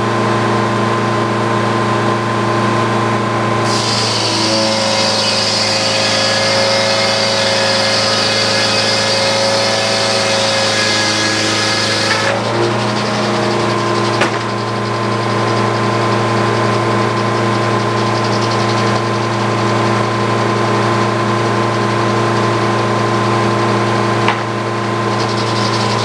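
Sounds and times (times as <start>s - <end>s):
circular saw cutting log: 3.6s - 26.0s.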